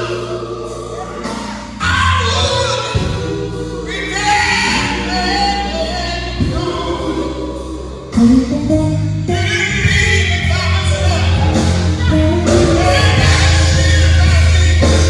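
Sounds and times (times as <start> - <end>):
band with drums and keyboard: 0.0 - 15.0
group singing gospel: 0.0 - 15.0.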